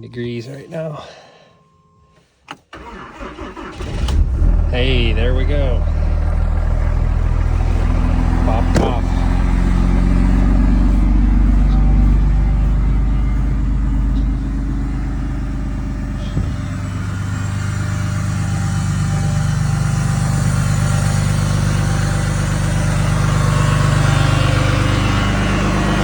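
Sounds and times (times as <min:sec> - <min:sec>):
diesel truck engine running: 0:02.7 - 0:26.0.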